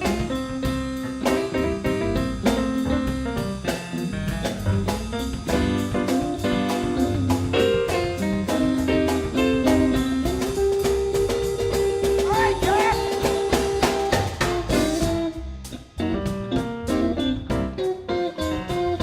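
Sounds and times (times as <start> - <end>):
blues band playing: 0.0 - 19.0.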